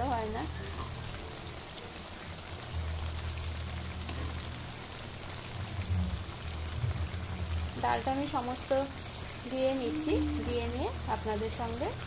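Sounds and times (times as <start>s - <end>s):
low steady hum: 0.0s - 12.0s
masala sizzling in oil: 0.0s - 12.0s.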